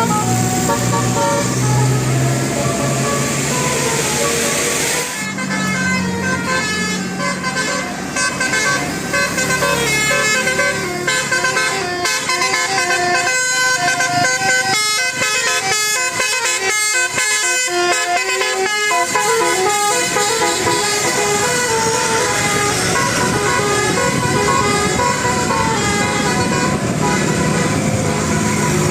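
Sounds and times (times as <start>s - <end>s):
musical bus horn playing a tune: 0.0s - 28.9s.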